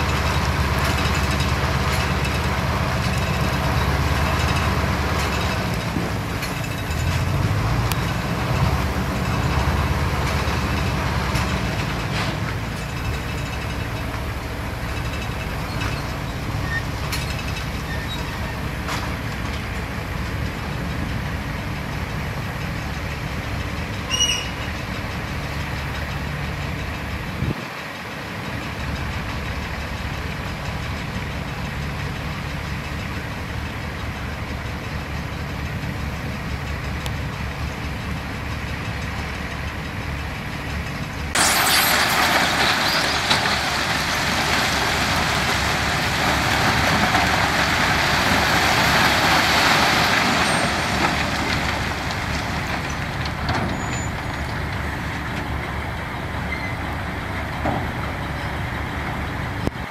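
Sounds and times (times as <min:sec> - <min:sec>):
heavy machinery diesel engines rumbling: 0:00.0 - 0:59.9.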